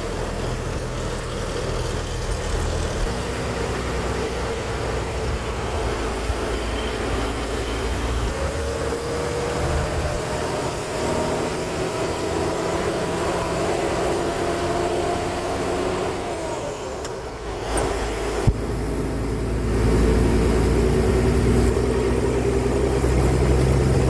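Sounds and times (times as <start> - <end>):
road noise: 0.0 - 24.0
truck engine running: 0.0 - 24.0.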